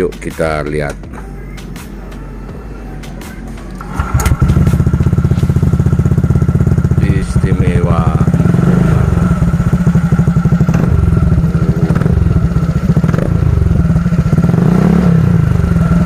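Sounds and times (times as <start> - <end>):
scooter engine idling: 2.5 - 16.0.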